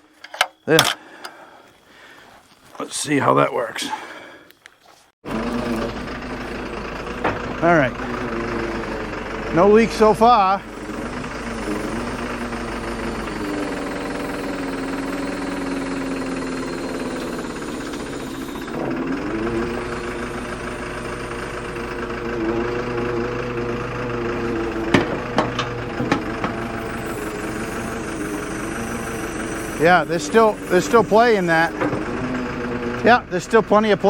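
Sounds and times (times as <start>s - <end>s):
excavator diesel engine running: 5.2s - 34.0s.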